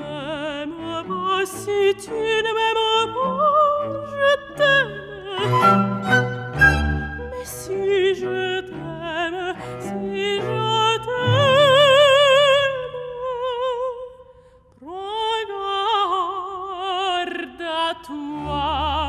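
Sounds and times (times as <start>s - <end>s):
woman singing operatically: 0.0s - 14.2s, 14.8s - 19.0s.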